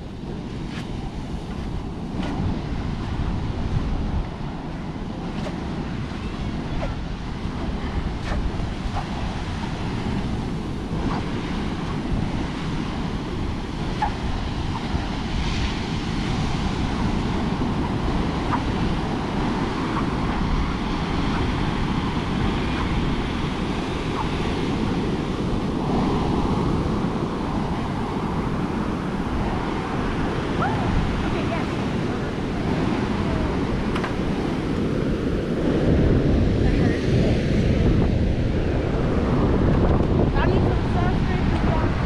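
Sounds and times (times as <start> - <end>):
ocean surf breaking: 0.0 - 42.0
wind buffeting microphone: 0.0 - 42.0.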